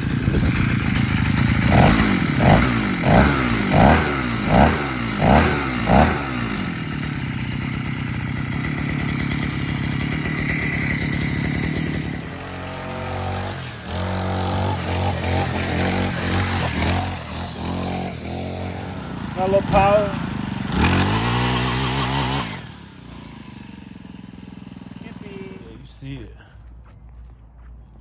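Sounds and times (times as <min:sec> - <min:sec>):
two-stroke engine revving: 0:00.0 - 0:26.5.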